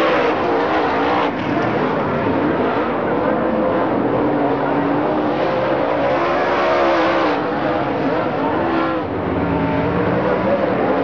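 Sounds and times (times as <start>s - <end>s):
engines revving: 0.0s - 11.0s.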